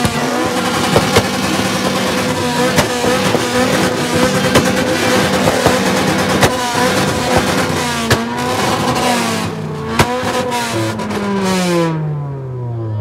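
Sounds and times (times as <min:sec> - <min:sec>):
exhaust pops: 0:00.0 - 0:11.7
car exhaust at high revs: 0:00.0 - 0:12.4.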